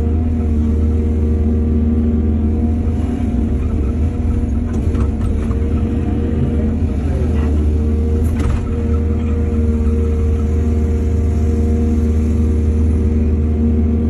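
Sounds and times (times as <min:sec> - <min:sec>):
heavy machine engine running: 0:00.0 - 0:14.0.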